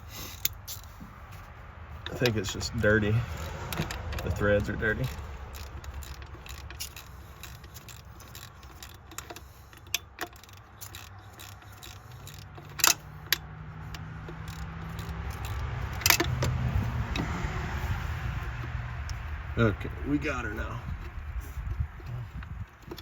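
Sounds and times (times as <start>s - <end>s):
ratchet clicking: 0.0s - 23.0s.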